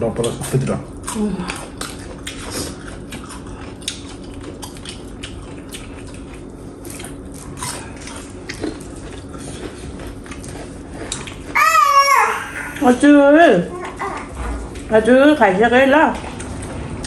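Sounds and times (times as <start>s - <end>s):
person chewing food: 0.0s - 12.9s, 13.7s - 14.9s, 16.2s - 17.0s.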